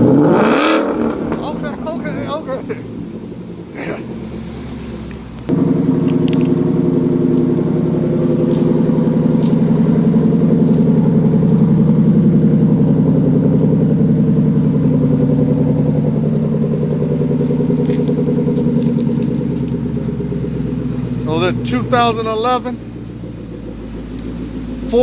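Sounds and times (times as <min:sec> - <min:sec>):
car engine with pulsing exhaust: 0:00.0 - 0:25.0.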